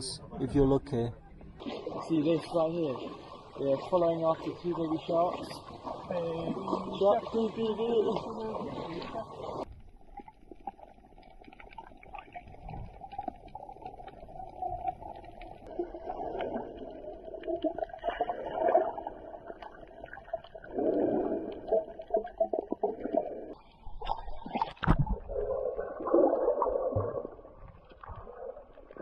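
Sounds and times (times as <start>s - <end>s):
underwater water rushing and gurgling: 1.2s - 29.0s.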